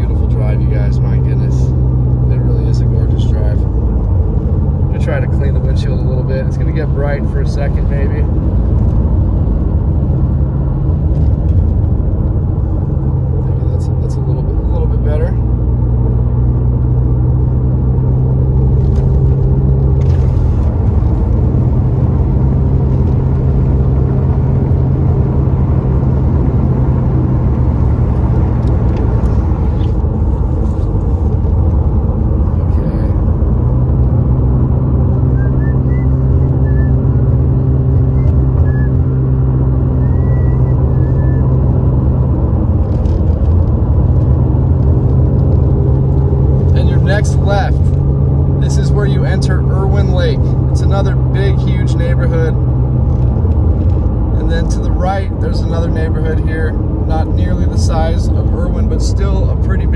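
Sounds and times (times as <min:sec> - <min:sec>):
car engine and tyre drone: 0:00.0 - 0:59.9.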